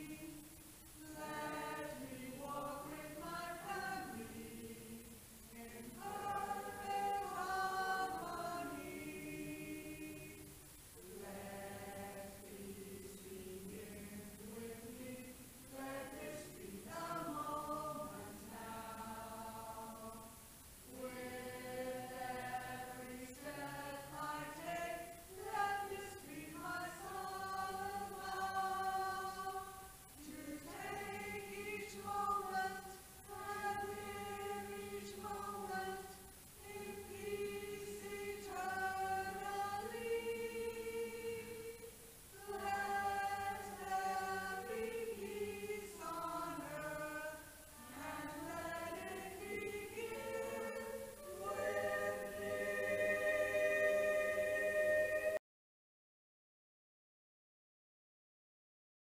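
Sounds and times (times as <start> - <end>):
choir singing: 0.0 - 55.4.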